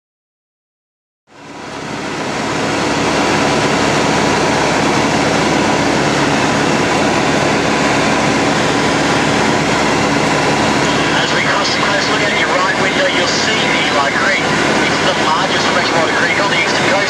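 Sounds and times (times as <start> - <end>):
propeller plane engine drone: 1.3 - 17.0.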